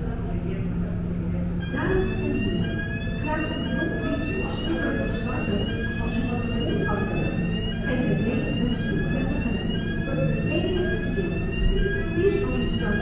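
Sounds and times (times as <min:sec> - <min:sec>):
low rumble of ship engine: 0:00.0 - 0:13.0
electronic warning signal rising tone: 0:01.6 - 0:13.0.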